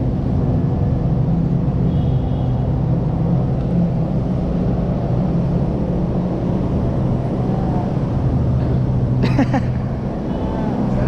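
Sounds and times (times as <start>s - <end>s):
engine drone: 0.0s - 11.0s
low rumble of motor traffic: 0.0s - 11.0s.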